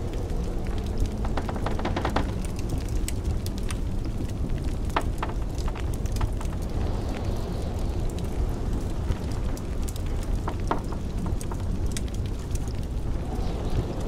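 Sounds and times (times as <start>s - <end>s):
blizzard wind rumble: 0.0s - 14.0s
wood fire crackling: 0.0s - 14.0s.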